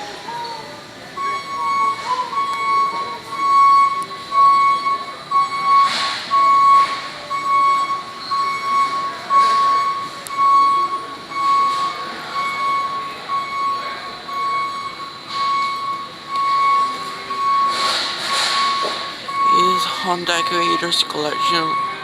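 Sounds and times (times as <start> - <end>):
electronic beeper beeping: 1.2 - 22.0.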